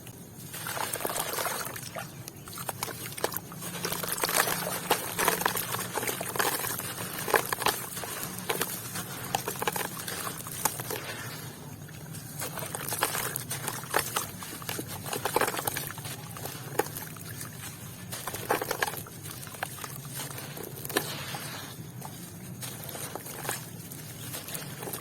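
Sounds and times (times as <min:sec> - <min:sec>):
crackling: 0:00.0 - 0:25.0
wet sand crumbling into water: 0:00.1 - 0:25.0
soft splashes: 0:00.4 - 0:25.0.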